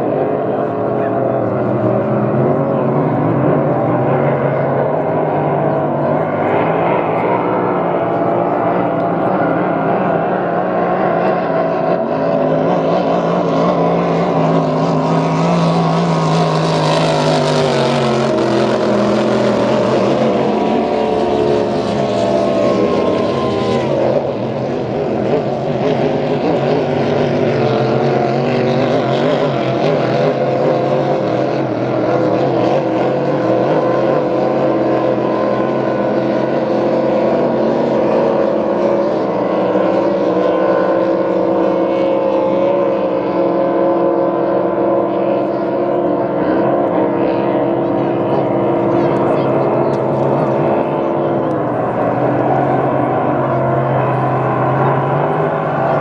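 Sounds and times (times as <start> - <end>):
powerboat engines at full speed: 0.0 - 56.0.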